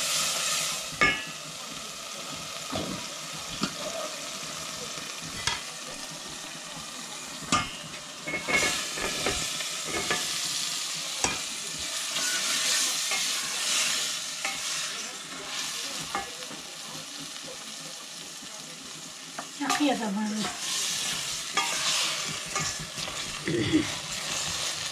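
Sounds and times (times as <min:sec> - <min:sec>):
food sizzling in a pan: 0:00.0 - 0:24.9.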